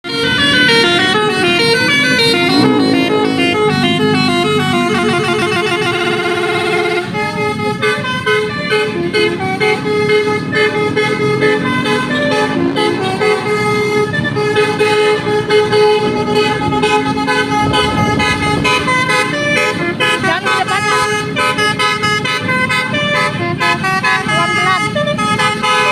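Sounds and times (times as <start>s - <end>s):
multi-tone vehicle horn melody: 0.0s - 25.9s.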